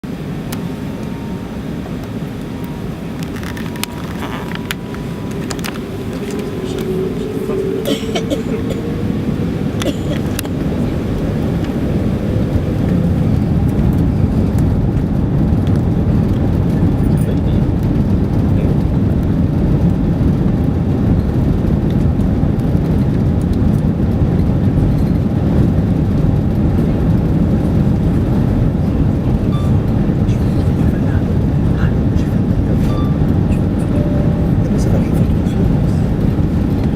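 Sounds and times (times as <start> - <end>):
jet engines deep rumble: 0.0 - 36.9.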